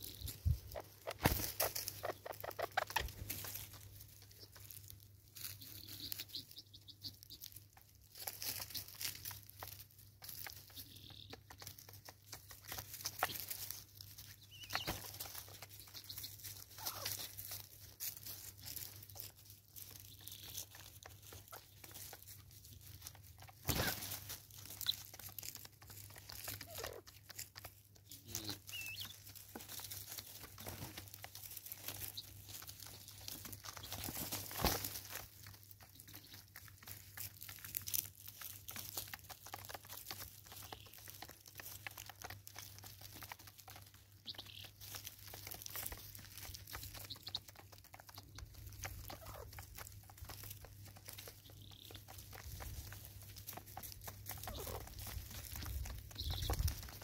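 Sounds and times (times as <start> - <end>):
birds pecking on wood: 0.0 - 57.0
scratching in dry leaves: 0.0 - 57.0.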